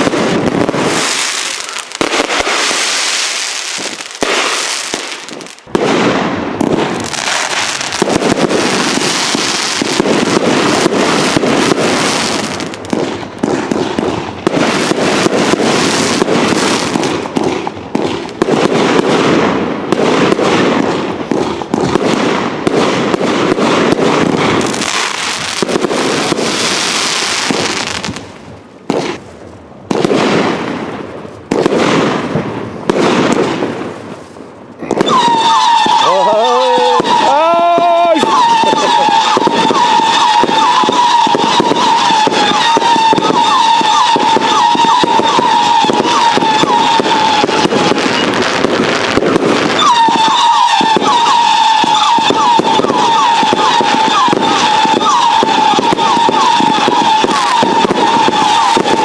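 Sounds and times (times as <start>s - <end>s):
fireworks crackling and banging: 0.0s - 59.0s.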